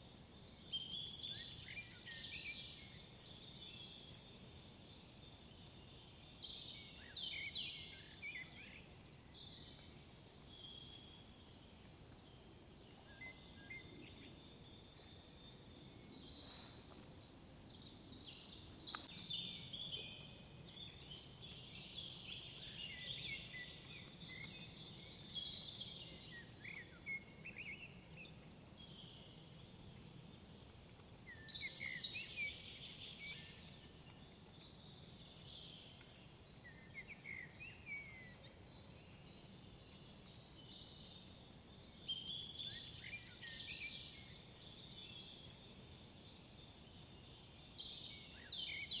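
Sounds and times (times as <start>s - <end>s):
songbirds singing: 0.0s - 49.0s.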